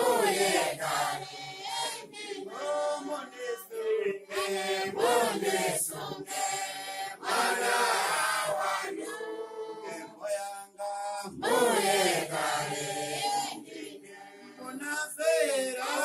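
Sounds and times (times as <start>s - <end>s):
congregation singing a hymn: 0.0s - 16.0s.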